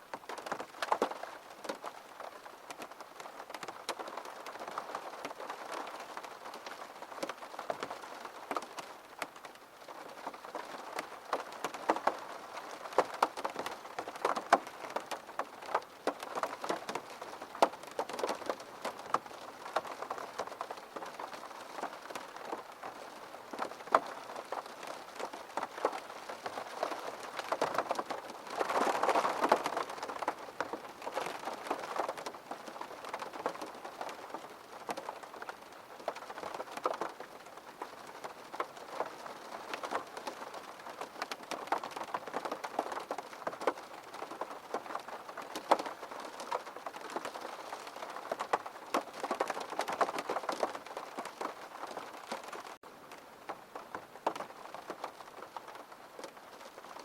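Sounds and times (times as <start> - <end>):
steady rain: 0.0 - 57.0
raindrops ticking on hard surface: 0.1 - 57.0.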